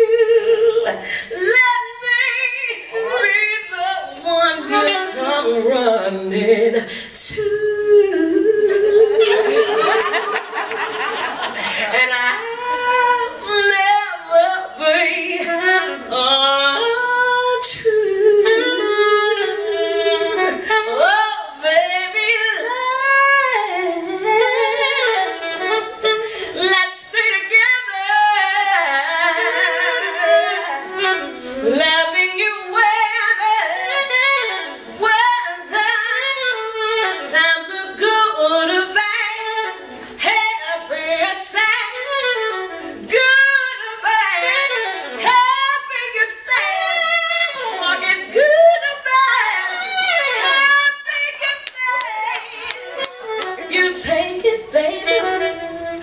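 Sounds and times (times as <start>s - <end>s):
saxophone: 0.0s - 56.0s.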